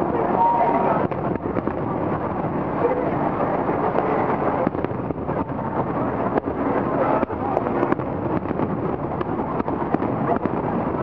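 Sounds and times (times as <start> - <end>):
distant firework bangs and crackles: 0.0 - 11.0.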